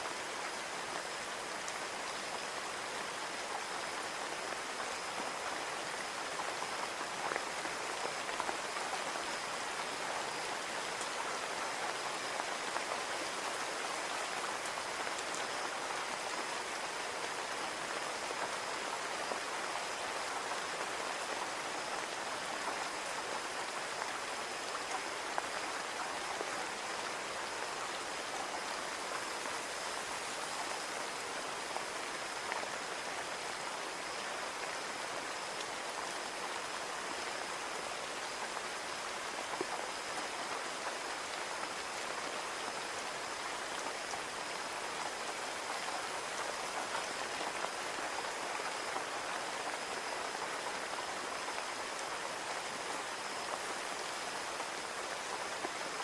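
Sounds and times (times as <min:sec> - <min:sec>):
rain pattering on a window: 0:00.0 - 0:56.0.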